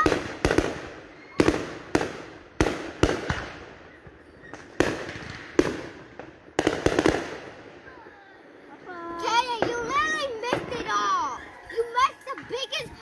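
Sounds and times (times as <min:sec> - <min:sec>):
fireworks bangs echoing: 0:00.0 - 0:13.0.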